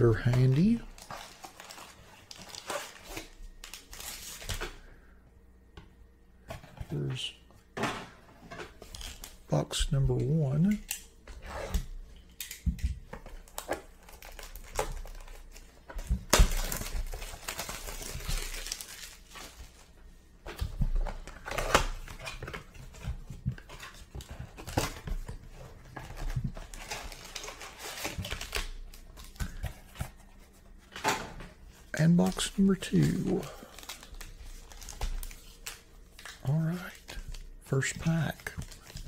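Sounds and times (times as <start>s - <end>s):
card packs rustling and crinkling: 0.0s - 4.9s, 6.4s - 39.0s.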